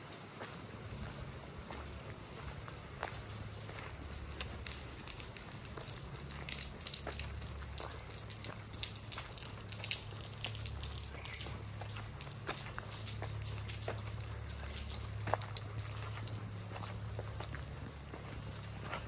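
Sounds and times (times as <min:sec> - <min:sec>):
footsteps on wet stone: 0:00.1 - 0:19.0.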